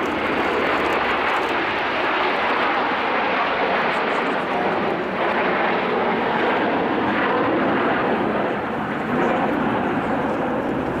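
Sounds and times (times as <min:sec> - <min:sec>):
jet planes flying past: 0:00.0 - 0:11.0.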